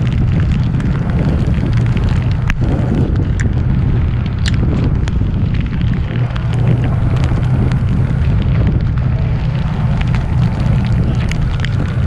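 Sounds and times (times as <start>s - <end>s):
raindrops ticking: 0.0s - 12.0s
strong wind buffeting microphone: 0.0s - 12.0s.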